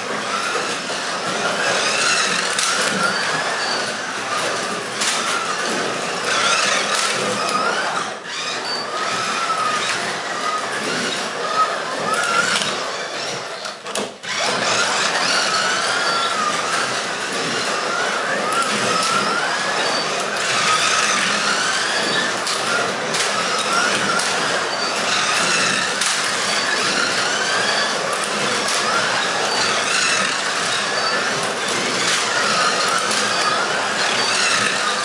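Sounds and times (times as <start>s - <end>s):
slot car motors whining: 0.0s - 35.0s.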